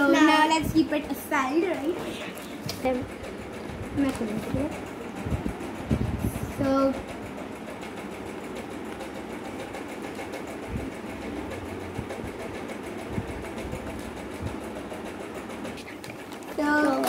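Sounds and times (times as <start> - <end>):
mechanical whir: 0.0 - 17.0.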